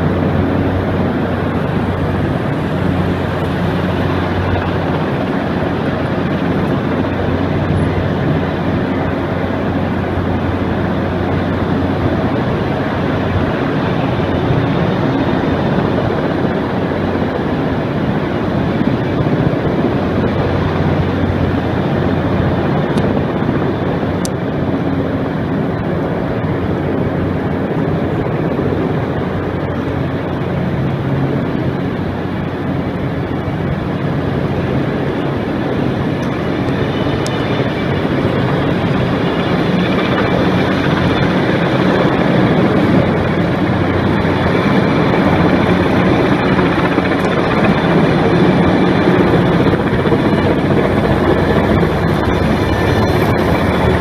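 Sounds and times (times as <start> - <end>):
helicopter hovering overhead: 0.0 - 54.0.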